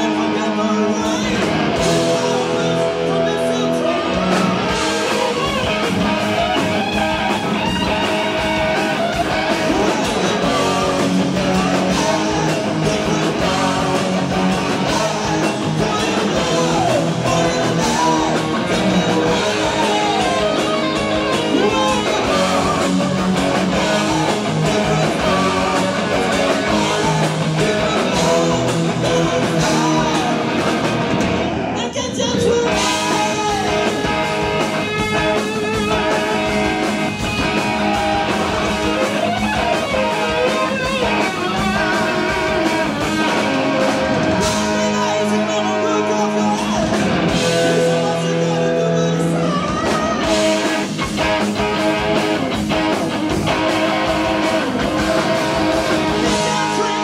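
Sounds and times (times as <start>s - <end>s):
man singing lead vocal: 0.0s - 31.0s, 31.6s - 57.0s
distorted electric guitars: 0.0s - 57.0s
live hard rock band: 0.0s - 57.0s.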